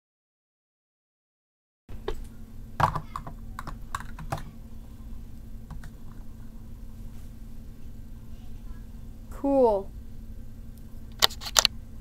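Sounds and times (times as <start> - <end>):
low steady hum: 1.9 - 12.0.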